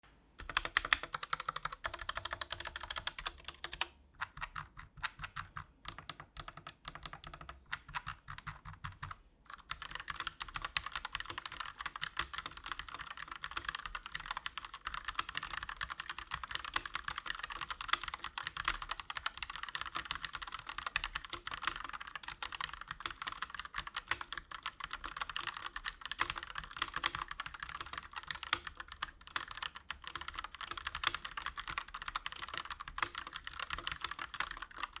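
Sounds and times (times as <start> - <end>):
fast typing on mechanical keyboard: 0.4 - 35.0.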